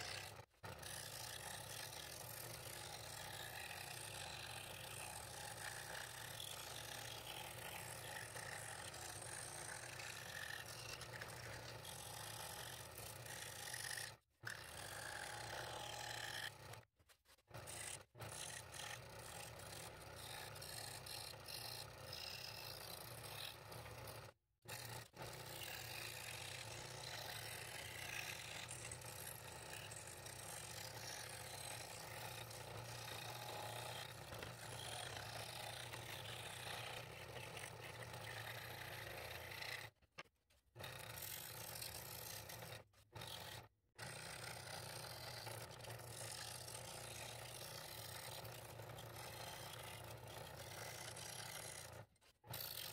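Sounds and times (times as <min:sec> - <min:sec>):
scroll saw cutting thin wood: 0:00.0 - 0:52.9.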